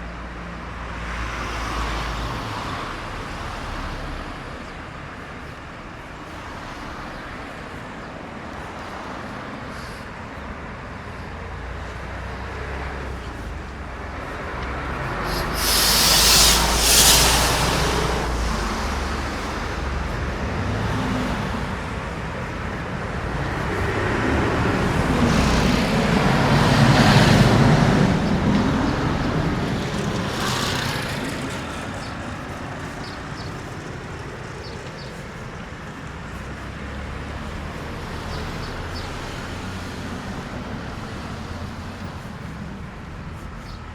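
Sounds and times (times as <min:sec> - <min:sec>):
traffic din: 0:00.0 - 0:43.9
vehicle passing with hiss: 0:00.3 - 0:43.9
tyres hissing on wet road: 0:00.4 - 0:43.9.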